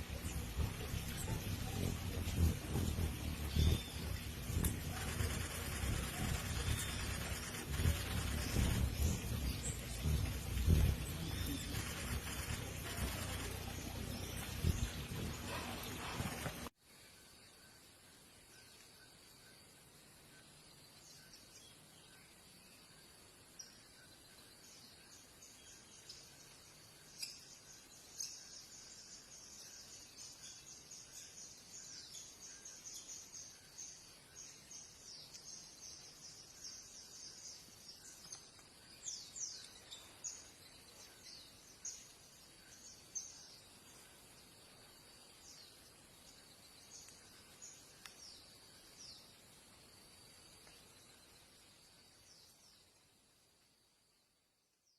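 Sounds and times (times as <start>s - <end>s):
faint bird chirping: 0.0s - 54.9s.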